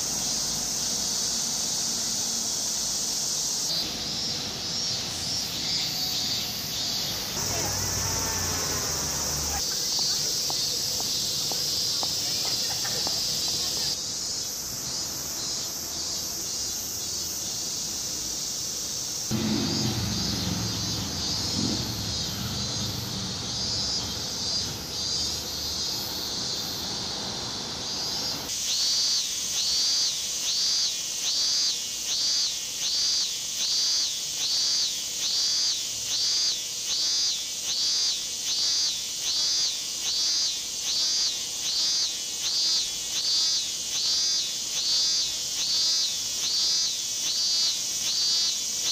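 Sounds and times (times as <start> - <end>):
cicadas singing: 0.0 - 48.9.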